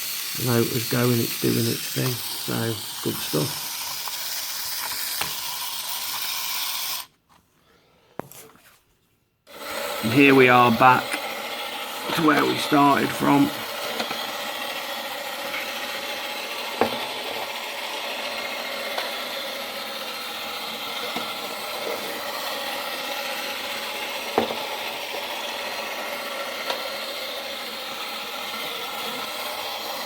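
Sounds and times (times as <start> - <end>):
toy motor whirring: 0.0 - 7.2, 9.5 - 30.0.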